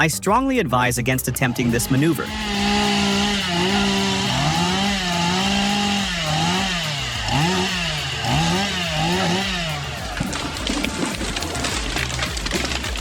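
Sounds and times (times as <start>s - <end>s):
chainsaw cutting: 1.3s - 13.0s.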